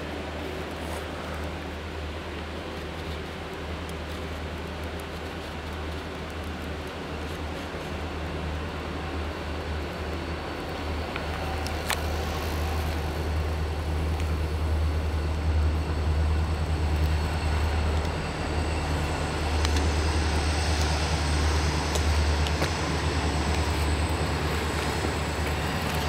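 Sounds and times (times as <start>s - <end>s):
freight train low rumble: 0.0s - 26.0s
rail and wheel hiss: 0.0s - 26.0s.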